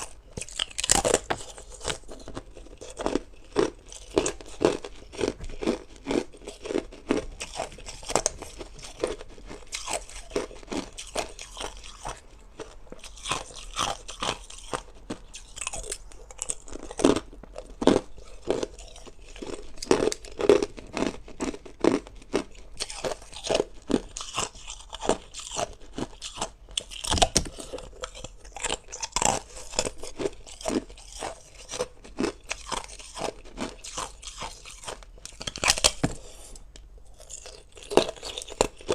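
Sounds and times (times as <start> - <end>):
person crunching ice: 0.0 - 36.5, 37.2 - 38.9.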